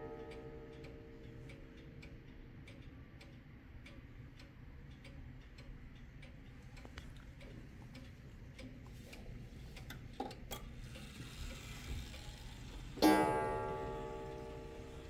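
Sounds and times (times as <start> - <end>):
pendulum clock ticking: 0.0 - 15.0.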